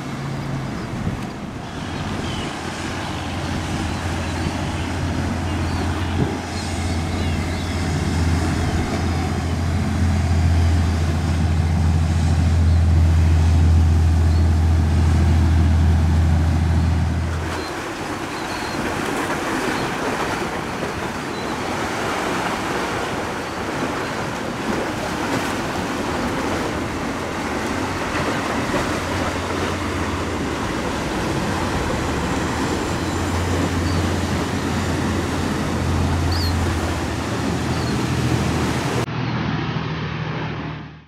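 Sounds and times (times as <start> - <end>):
waves and bow spray rushing: 0.0 - 40.9
boat engines droning: 0.0 - 41.0.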